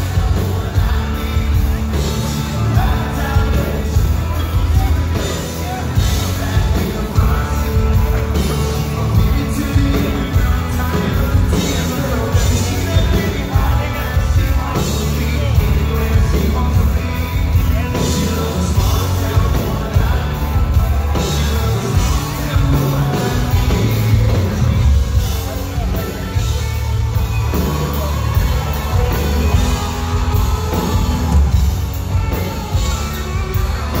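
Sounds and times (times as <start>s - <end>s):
live country band playing: 0.0s - 34.0s
man singing: 0.0s - 34.0s.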